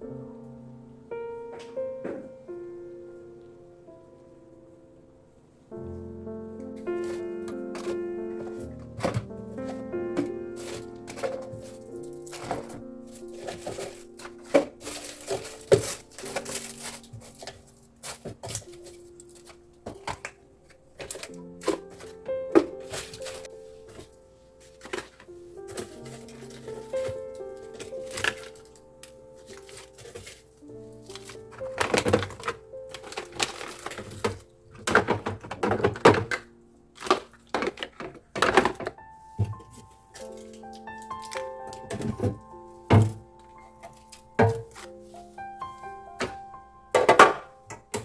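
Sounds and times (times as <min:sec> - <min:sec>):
soft background music: 0:00.0 - 0:48.0
objects being handled: 0:06.6 - 0:48.0.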